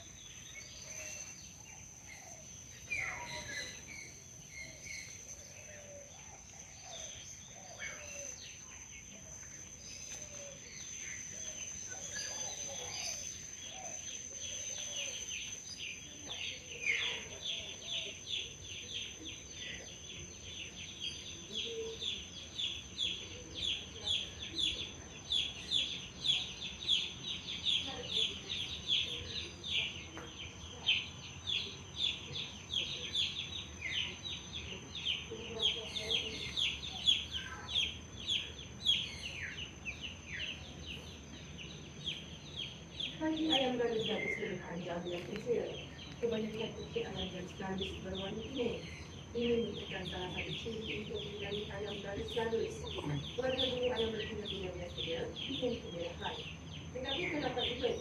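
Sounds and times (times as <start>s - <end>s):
birds chirping: 0.0s - 58.0s
high insect whine: 0.0s - 58.0s
rapid repeated bird chirps: 0.0s - 58.0s.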